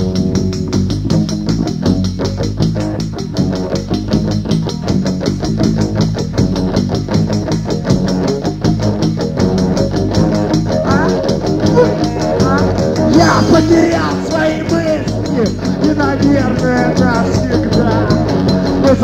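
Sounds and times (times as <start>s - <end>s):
bass guitar: 0.0s - 19.0s
drum kit beat: 0.0s - 19.0s
electric guitar: 0.0s - 19.0s.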